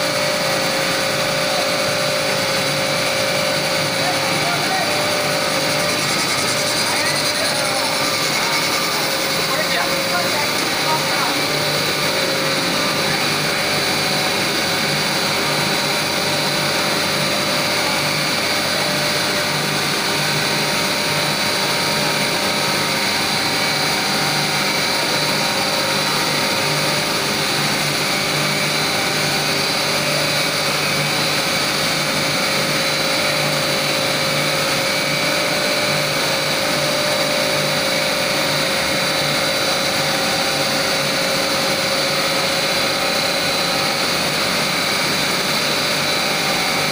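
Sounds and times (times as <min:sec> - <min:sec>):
loud machine whir: 0:00.0 - 0:46.9.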